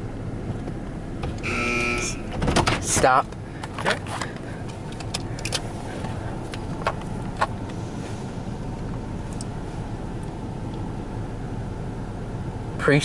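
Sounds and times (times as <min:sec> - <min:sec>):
low hum inside a car: 0:00.0 - 0:13.0.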